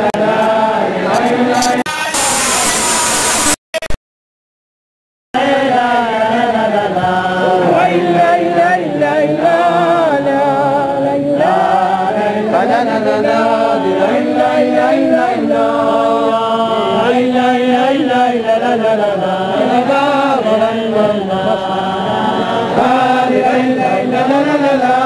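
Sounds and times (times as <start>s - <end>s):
group of men singing: 0.0s - 3.5s, 5.4s - 25.0s.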